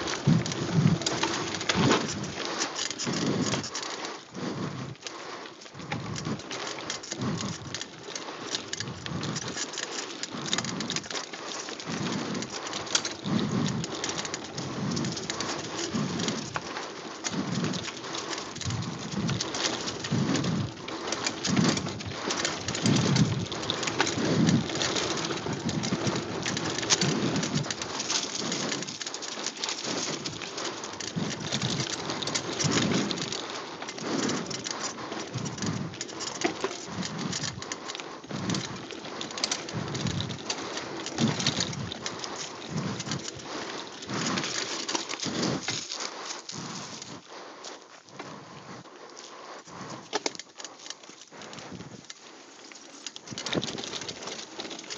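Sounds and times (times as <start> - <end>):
bike tyres hissing over dirt: 0.0 - 54.9.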